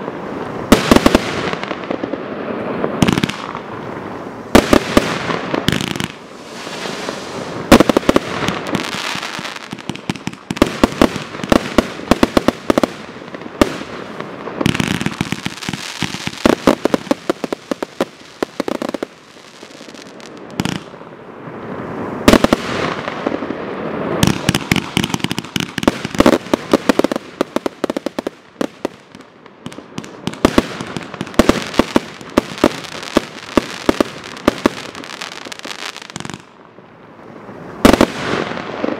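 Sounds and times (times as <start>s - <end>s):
fireworks barrage: 0.0s - 38.9s.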